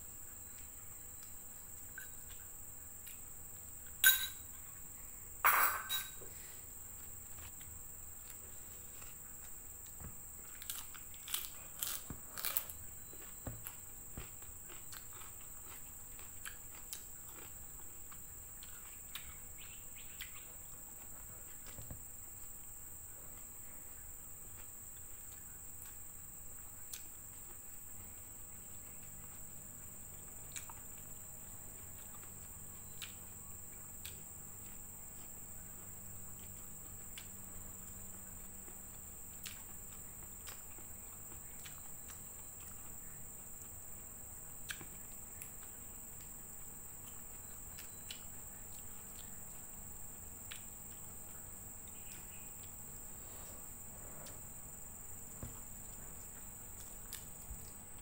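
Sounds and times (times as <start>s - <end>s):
soft chewing: 0.2s - 5.1s, 6.3s - 58.0s.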